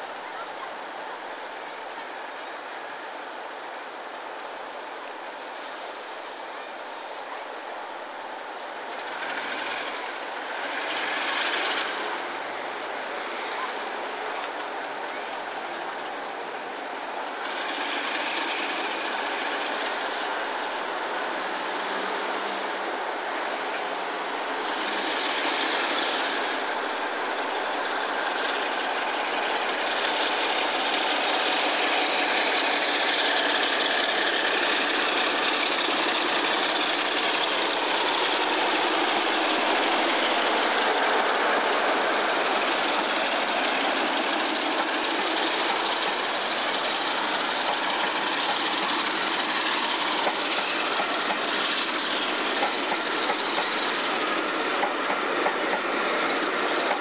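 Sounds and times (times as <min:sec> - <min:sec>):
coaches rumbling on rails: 0:00.0 - 0:57.0
diesel locomotive engine: 0:00.0 - 0:57.0.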